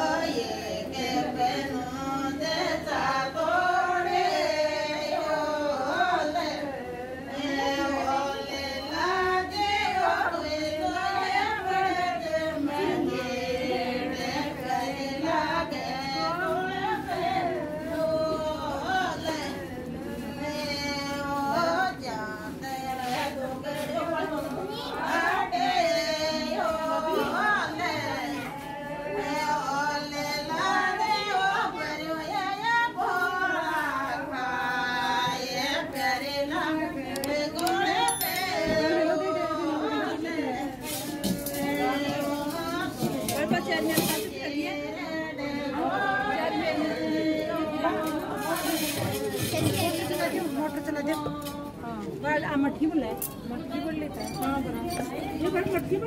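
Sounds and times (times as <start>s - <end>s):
women singing unaccompanied: 0.0s - 56.0s.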